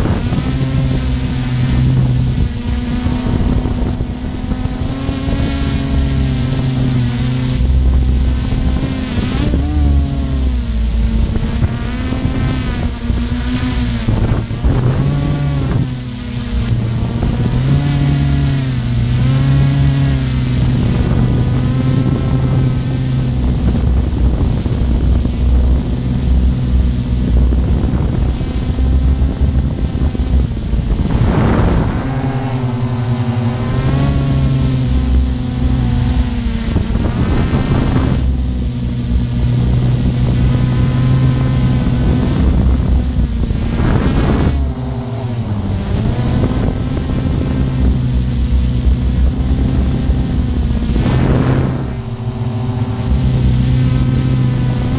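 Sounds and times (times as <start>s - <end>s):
drone propellers humming: 0.0s - 54.9s.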